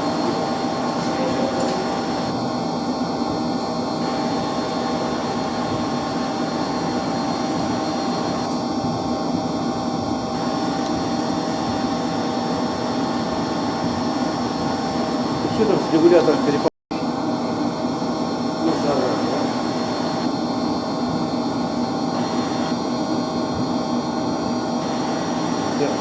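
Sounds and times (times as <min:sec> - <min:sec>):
circulation pumps droning: 0:00.0 - 0:26.0
whining tones: 0:00.0 - 0:26.0.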